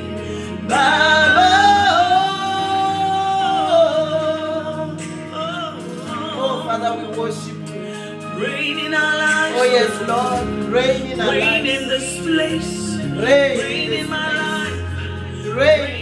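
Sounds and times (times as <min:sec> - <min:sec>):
person singing gospel: 0:00.0 - 0:16.0
sustained backing chords: 0:00.0 - 0:16.0.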